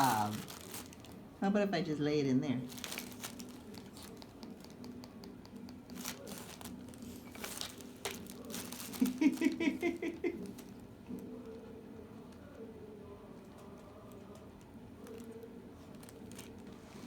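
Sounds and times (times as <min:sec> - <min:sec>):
crinkling and crumpling: 0:00.0 - 0:01.3, 0:02.6 - 0:12.6, 0:13.5 - 0:17.0
faint steady hum: 0:00.0 - 0:17.0.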